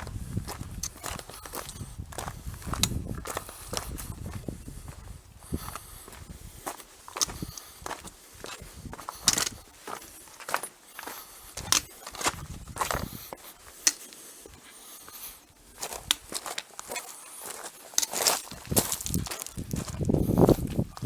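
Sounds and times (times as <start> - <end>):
footsteps on rock and gravel: 0.0 - 21.0.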